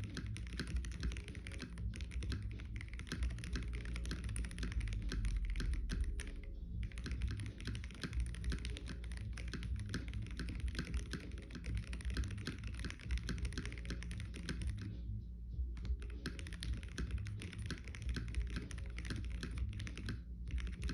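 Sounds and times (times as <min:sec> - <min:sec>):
mechanical keyboard typing: 0:00.0 - 0:15.0, 0:15.8 - 0:20.9.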